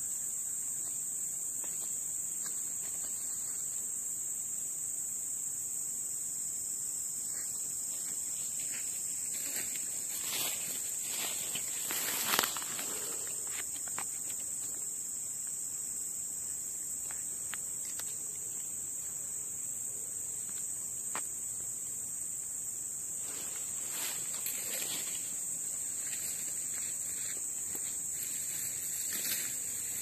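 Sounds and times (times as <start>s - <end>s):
insects droning high-pitched: 0.0s - 30.0s.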